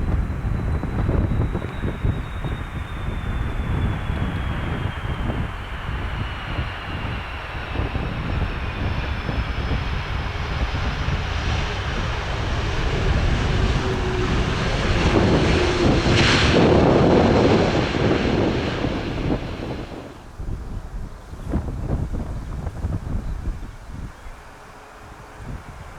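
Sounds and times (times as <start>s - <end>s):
jet airliner engine noise: 0.0s - 25.9s
wind buffeting microphone: 0.0s - 25.9s.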